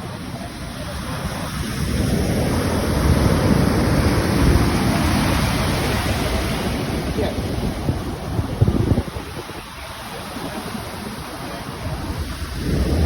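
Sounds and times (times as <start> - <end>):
wave breaking and washing in: 0.0 - 13.0.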